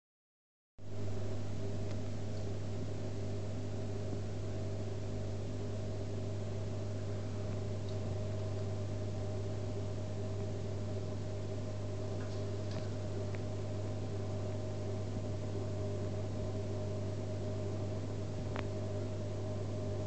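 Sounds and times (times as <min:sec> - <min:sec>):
aquarium pump humming: 0:00.8 - 0:20.0.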